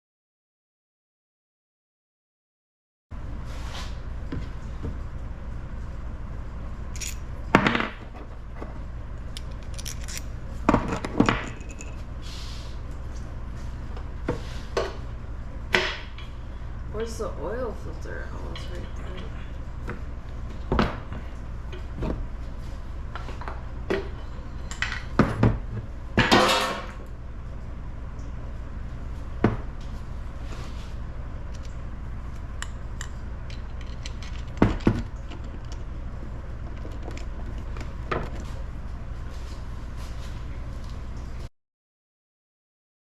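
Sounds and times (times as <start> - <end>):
steady low hum: 3.1 - 41.5.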